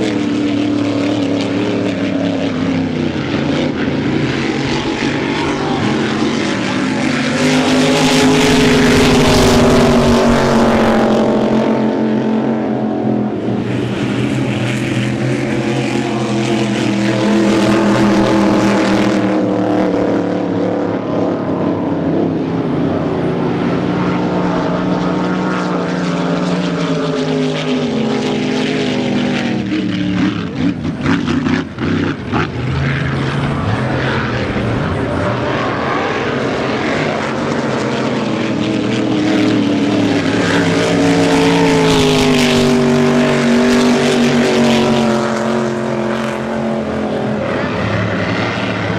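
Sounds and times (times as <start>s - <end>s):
large engine running: 0.0s - 48.9s.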